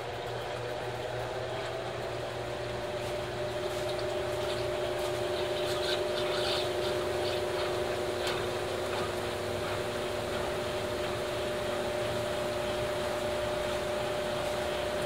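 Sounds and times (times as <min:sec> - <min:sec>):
washing machine spinning hum: 0:00.0 - 0:15.0.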